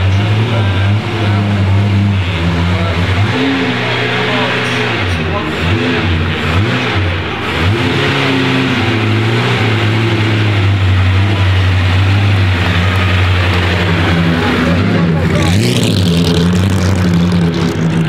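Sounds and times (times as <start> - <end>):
supercharged car engine revving: 0.0 - 18.0.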